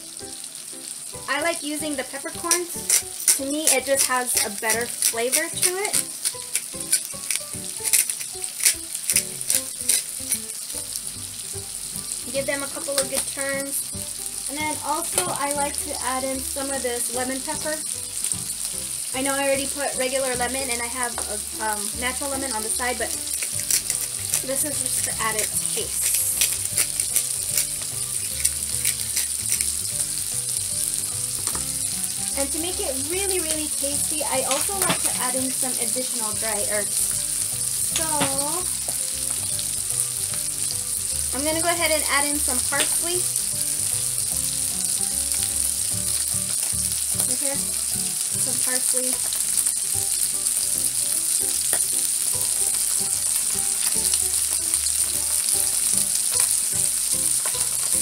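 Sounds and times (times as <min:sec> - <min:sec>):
food sizzling in a skillet: 0:00.0 - 0:58.0
sharp popping of frying: 0:00.0 - 0:58.0.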